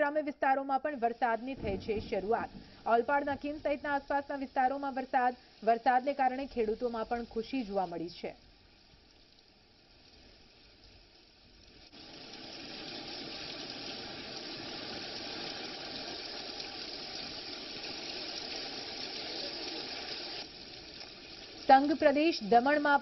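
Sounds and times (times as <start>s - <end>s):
faint hiss: 0.1s - 23.0s
rain pouring: 1.0s - 23.0s.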